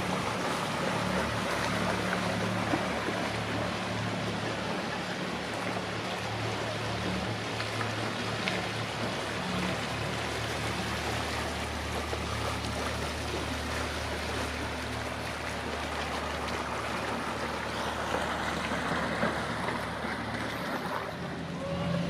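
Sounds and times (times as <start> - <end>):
churned water rushing: 0.0 - 22.0
motor boat engine hum: 0.0 - 22.0.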